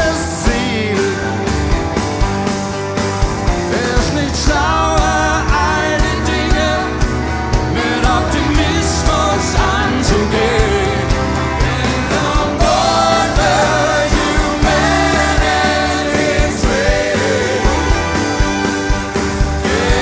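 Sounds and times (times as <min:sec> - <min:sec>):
man singing lead: 0:00.0 - 0:01.8, 0:03.5 - 0:18.9, 0:19.6 - 0:20.0
acoustic guitar: 0:00.0 - 0:20.0
band playing: 0:00.0 - 0:20.0
backing singers: 0:03.4 - 0:20.0.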